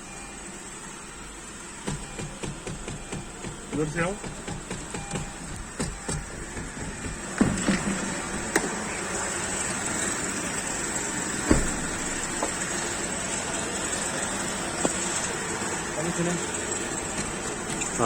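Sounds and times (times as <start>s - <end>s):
car running noise: 0.8s - 18.0s.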